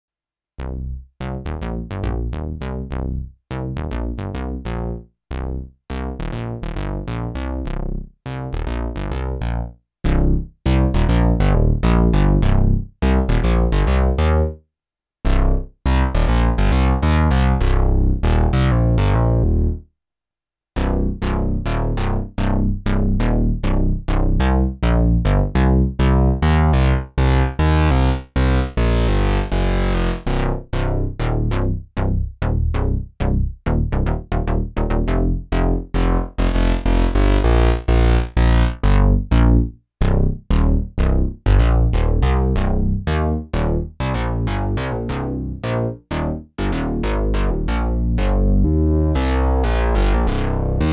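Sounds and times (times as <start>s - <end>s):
synthesizer bass line: 0.6s - 14.6s, 15.3s - 19.8s, 20.8s - 50.9s.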